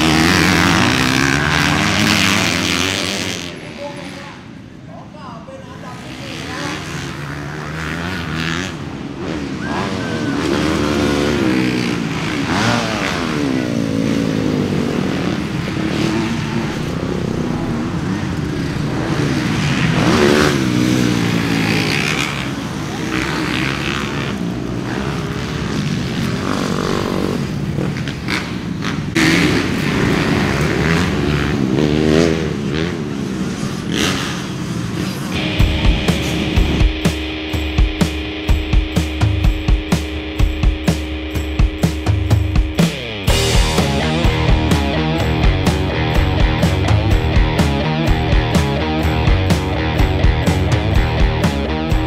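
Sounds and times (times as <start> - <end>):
dirt bike engines racing: 0.0 - 52.0.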